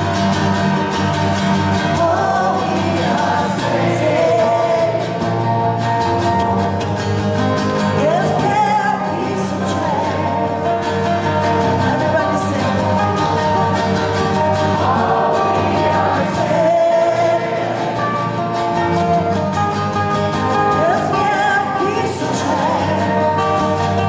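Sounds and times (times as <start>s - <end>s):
woman singing: 0.0s - 5.7s, 7.8s - 18.3s, 20.4s - 24.0s
guitar accompaniment: 0.0s - 24.0s.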